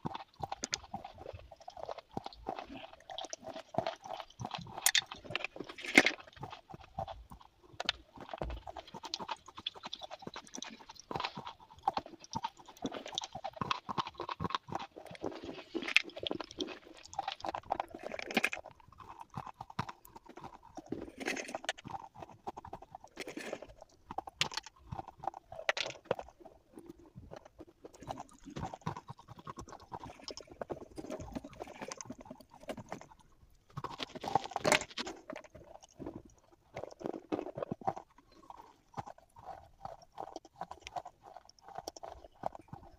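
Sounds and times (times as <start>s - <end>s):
gritty chewing: 0.0s - 42.9s.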